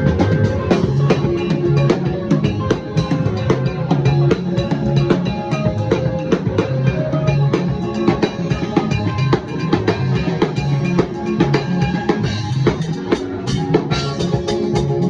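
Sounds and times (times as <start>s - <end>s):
band music: 0.0s - 15.0s
drum kit beat: 0.0s - 15.0s.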